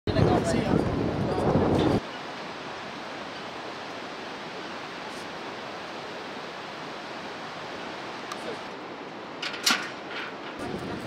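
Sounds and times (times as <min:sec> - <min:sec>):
river rapids rushing: 0:01.9 - 0:11.0.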